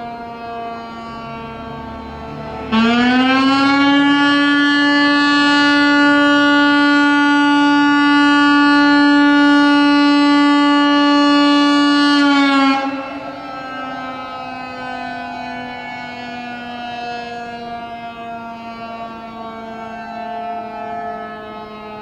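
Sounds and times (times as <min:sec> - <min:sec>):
fire alarm siren: 0:00.0 - 0:22.0.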